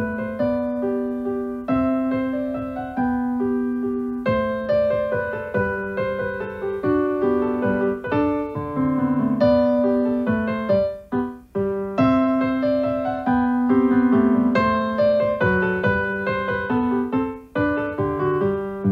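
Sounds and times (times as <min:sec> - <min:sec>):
piano melody: 0:00.0 - 0:18.9.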